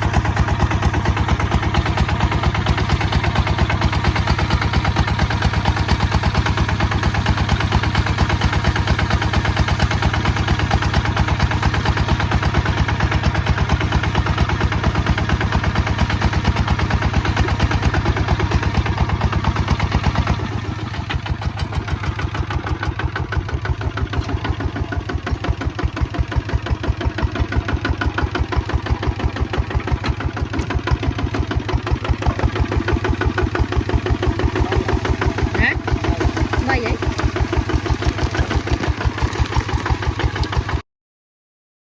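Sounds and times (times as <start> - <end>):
diesel engine chugging: 0.0 - 40.8.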